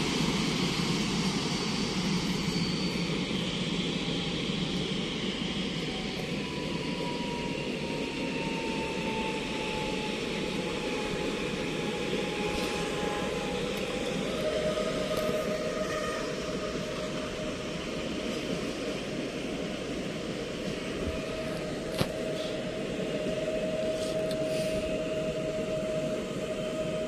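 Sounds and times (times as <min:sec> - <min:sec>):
train rumble and rail noise: 0:00.0 - 0:27.0.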